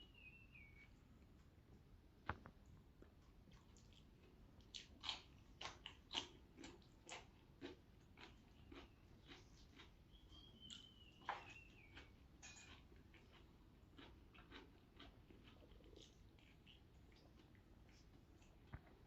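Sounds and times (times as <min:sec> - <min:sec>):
chewing and crunching: 0:03.0 - 0:19.0.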